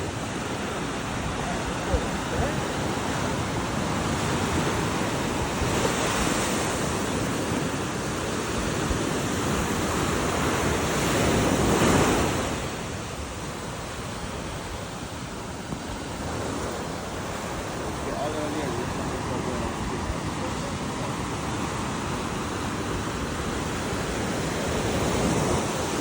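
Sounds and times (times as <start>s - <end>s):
ocean waves washing ashore: 0.0s - 26.0s.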